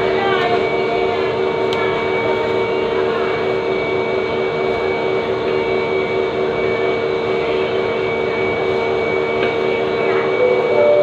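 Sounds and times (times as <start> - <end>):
steady machine drone: 0.0 - 11.0.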